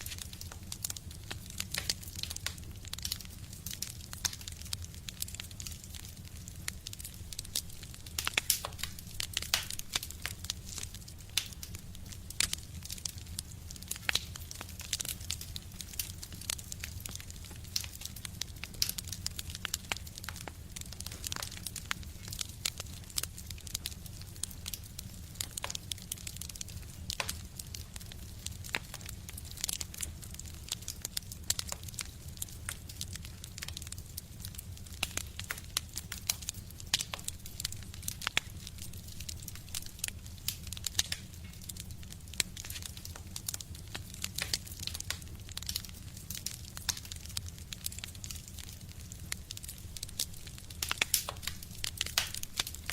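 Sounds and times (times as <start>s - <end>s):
low rumble of fire: 0.0s - 52.9s
wood fire crackling and popping: 0.0s - 52.9s.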